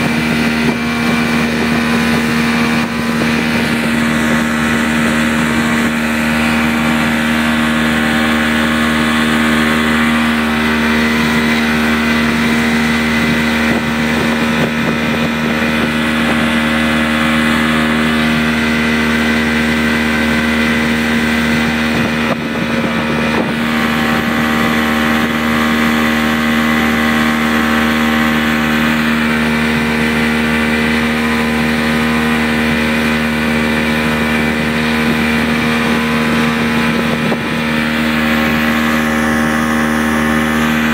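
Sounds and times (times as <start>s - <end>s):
motorboat engine running: 0.0s - 40.9s
wind buffeting microphone: 0.0s - 40.9s.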